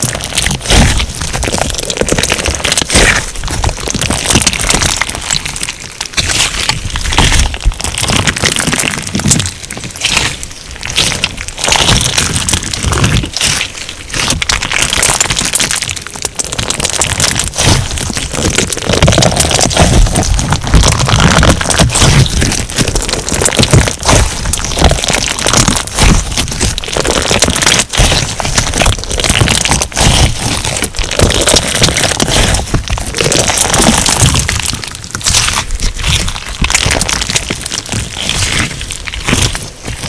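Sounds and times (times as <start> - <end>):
crunchy slime crackling: 0.0 - 40.0.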